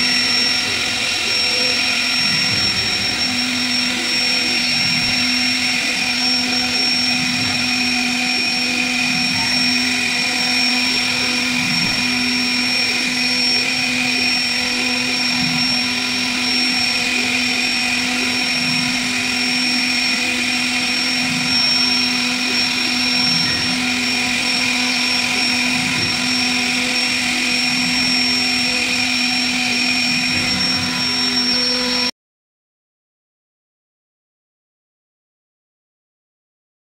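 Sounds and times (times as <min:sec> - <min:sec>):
router spindle whining: 0:00.0 - 0:32.1.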